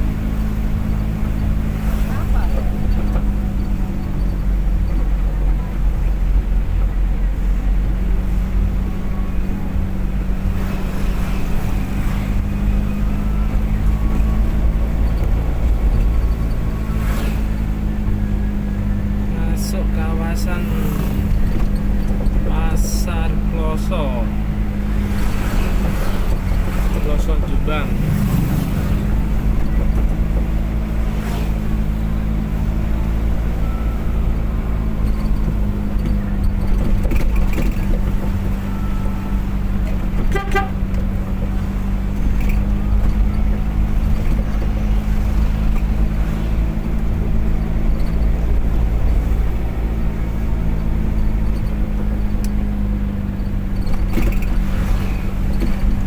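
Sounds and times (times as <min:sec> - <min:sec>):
car engine hum: 0:00.0 - 0:56.0
low road rumble: 0:00.0 - 0:56.0.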